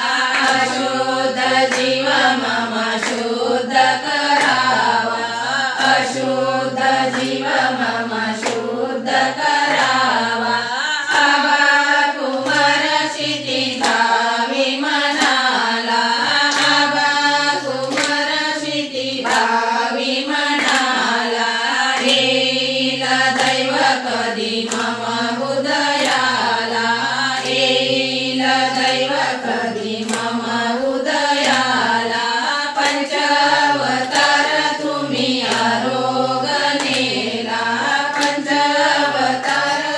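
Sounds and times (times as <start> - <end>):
hand-clapping: 0.0 - 39.9
women singing together: 0.0 - 39.9.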